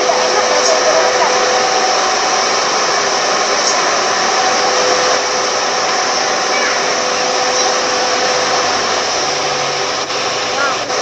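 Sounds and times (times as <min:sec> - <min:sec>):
car air conditioning fan: 0:00.0 - 0:11.0
faint humming tones: 0:00.0 - 0:11.0.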